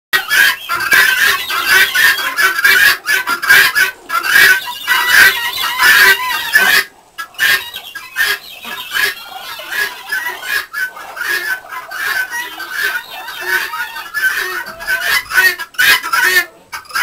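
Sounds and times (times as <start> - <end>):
guinea fowl calling: 0.2 - 17.0.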